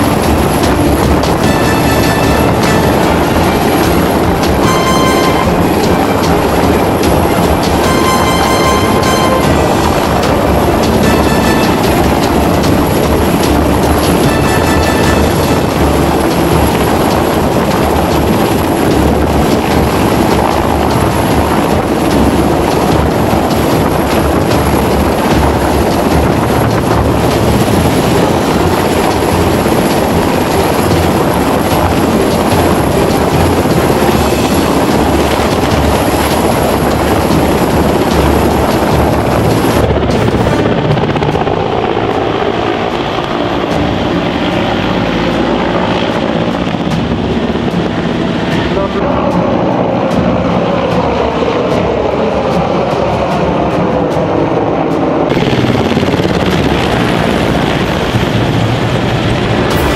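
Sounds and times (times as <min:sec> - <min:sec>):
helicopter rotor throbbing roar: 0:00.0 - 0:59.9
high turbine hiss: 0:00.0 - 0:59.9.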